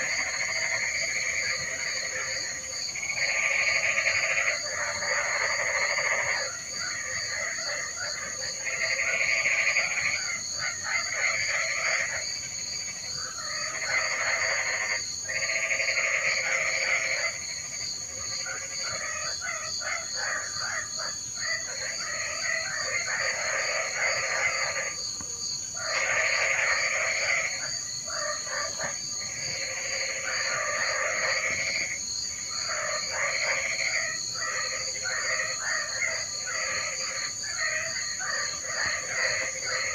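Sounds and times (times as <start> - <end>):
frogs calling: 0.0 - 39.9
high-pitched insect trill: 0.0 - 39.9.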